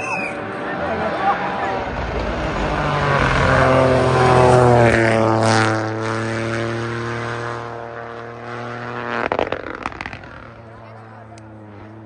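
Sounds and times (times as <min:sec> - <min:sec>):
rally car engine droning: 0:00.0 - 0:12.0.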